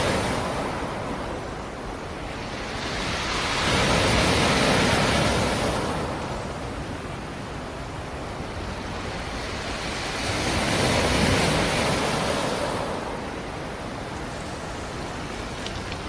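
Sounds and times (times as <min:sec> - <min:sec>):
steady rush of water: 0:00.0 - 0:16.0
wave breaking and washing back: 0:00.0 - 0:16.0.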